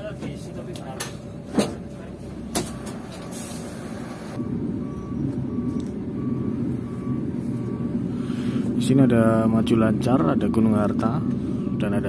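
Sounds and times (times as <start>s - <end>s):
diesel engine running: 0.0s - 12.0s
bus reversing beeper: 1.3s - 12.0s.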